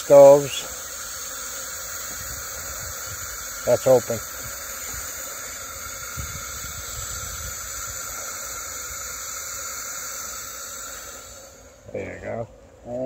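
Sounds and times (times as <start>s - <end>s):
gas hissing from valve: 0.0s - 12.0s.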